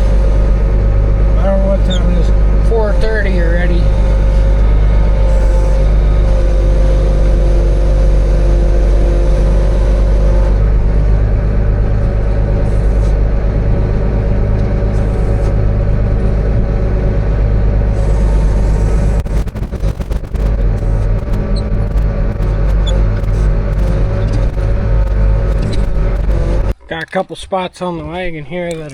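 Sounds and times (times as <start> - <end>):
tractor engine running: 0.0 - 27.6.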